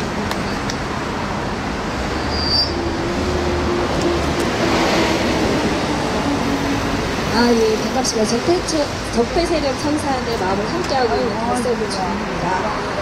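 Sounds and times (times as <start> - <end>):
large vehicle engine hum: 0.0 - 13.0
road traffic noise: 0.0 - 13.0.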